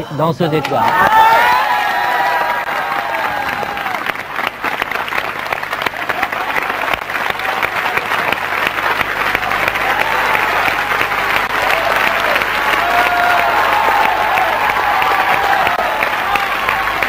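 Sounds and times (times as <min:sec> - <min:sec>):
audience applauding: 0:00.6 - 0:17.0.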